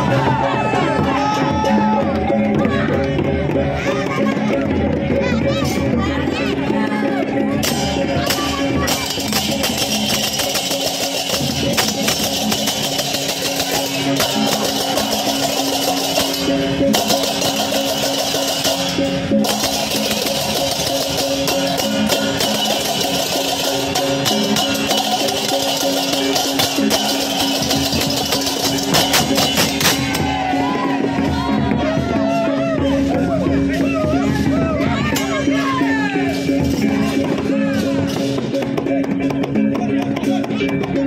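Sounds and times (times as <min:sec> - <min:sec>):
percussion music: 0:00.0 - 0:41.0.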